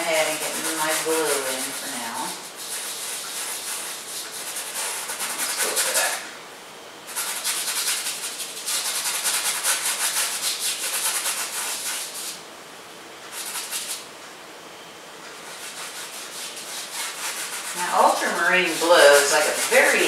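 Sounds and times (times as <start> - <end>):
paintbrush scrubbing on canvas: 0.0 - 6.2, 7.1 - 12.4, 13.3 - 14.0, 15.3 - 20.0.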